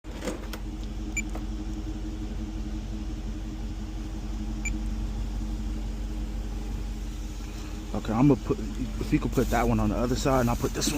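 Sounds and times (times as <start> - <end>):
car rumble: 0.0 - 10.9.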